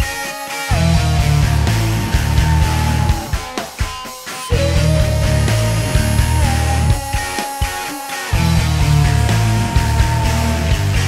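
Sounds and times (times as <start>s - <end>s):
instrumental rock music: 0.0s - 11.0s.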